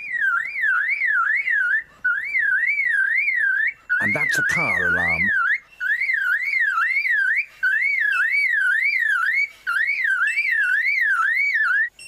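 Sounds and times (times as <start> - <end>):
lyrebird mimicking car alarm: 0.0 - 12.0.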